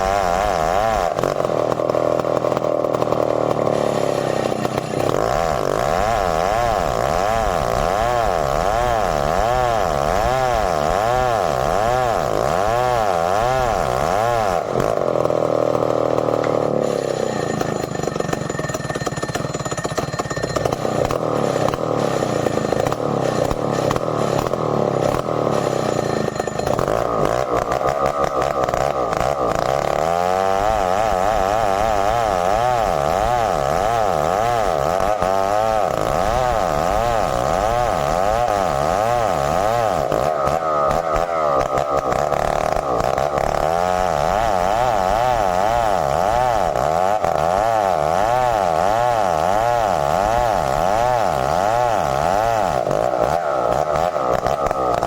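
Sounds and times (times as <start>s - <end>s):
chainsaw sawing hardwood: 0.0s - 55.0s.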